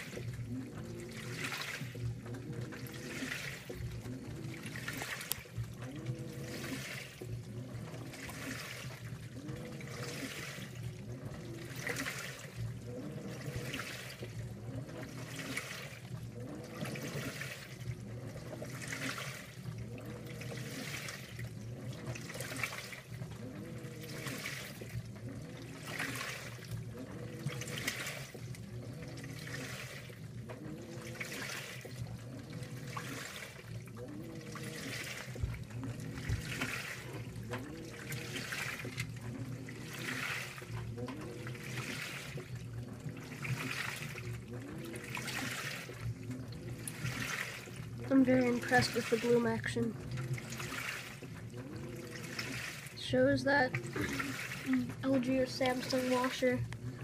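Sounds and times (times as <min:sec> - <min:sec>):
washer motor whining: 0:00.0 - 0:57.0
water sloshing in washer: 0:00.0 - 0:57.0.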